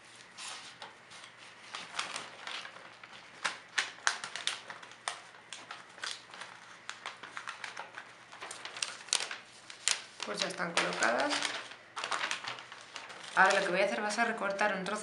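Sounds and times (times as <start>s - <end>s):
metallic paper crinkling: 0.0s - 15.0s.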